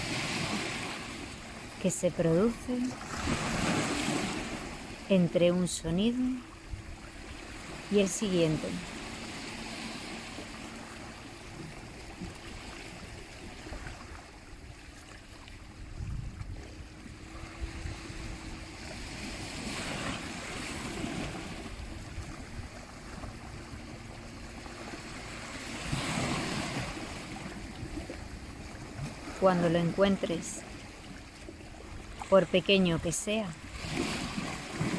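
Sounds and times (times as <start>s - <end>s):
sea waves washing onto shore: 0.0s - 34.9s.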